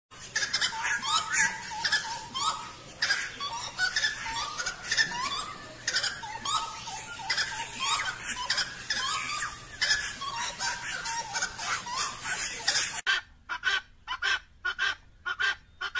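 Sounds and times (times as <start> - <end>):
birds calling in duet: 0.2 - 15.9.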